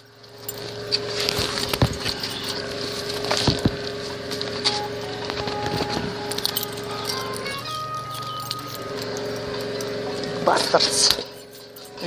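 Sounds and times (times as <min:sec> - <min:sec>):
metal chain rattling: 0:00.0 - 0:12.0.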